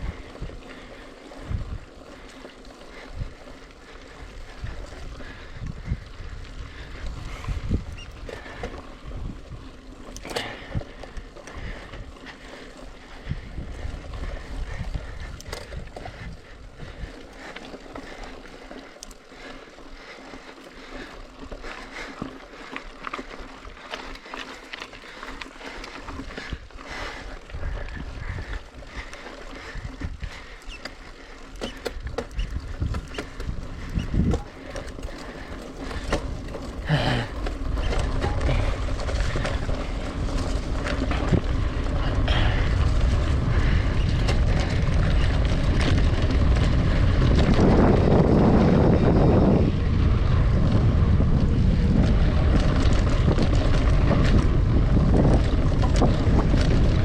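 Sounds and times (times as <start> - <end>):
bike rattling over dirt: 0.0 - 57.0
wind rumbling on microphone: 0.0 - 57.0.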